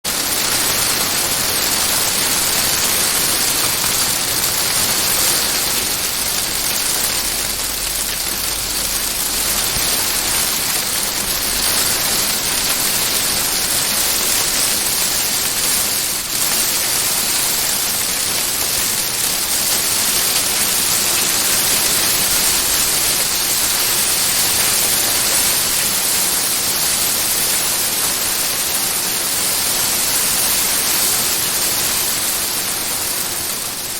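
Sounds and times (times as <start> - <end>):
hail and rain on greenhouse roof: 0.0 - 33.9.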